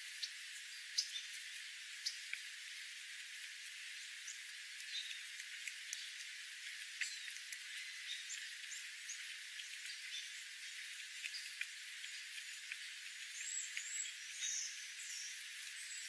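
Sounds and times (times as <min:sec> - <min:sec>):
steady hiss: 0:00.0 - 0:16.0
birds pecking on gravel: 0:00.9 - 0:16.0.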